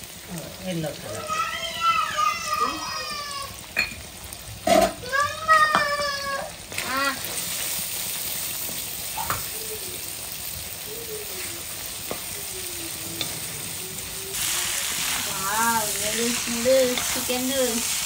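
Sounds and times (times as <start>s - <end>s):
food sizzling in a wok: 0.0s - 18.0s.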